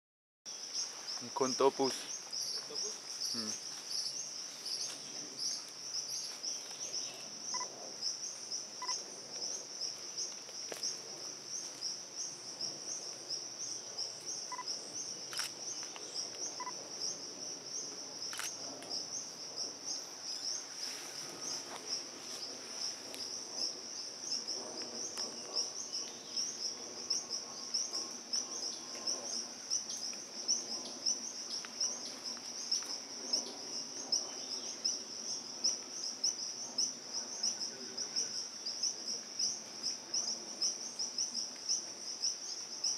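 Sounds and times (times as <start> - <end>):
insect chorus trilling: 0.5 - 42.9.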